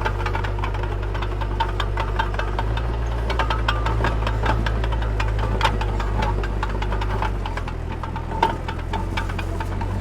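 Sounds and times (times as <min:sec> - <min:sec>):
heavy diesel engine running: 0:00.0 - 0:10.0
rapid clatter of clicks: 0:00.0 - 0:10.0.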